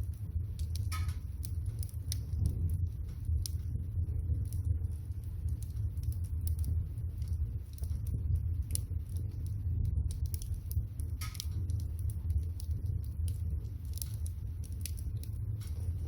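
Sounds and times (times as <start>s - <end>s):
firewood crackling and popping: 0.0s - 16.0s
water boiling in a pot: 0.0s - 16.0s.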